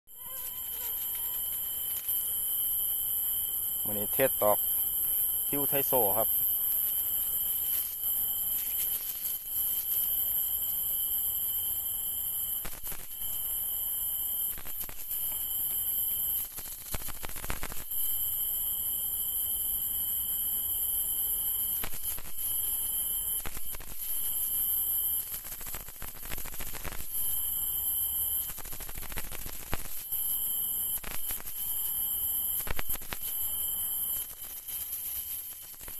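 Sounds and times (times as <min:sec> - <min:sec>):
night insects chirring: 0:00.1 - 0:35.9.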